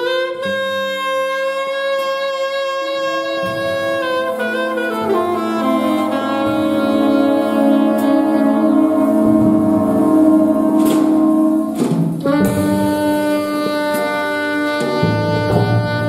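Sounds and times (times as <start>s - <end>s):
jazz big band playing: 0.0s - 16.0s
saxophone solo: 0.0s - 16.0s.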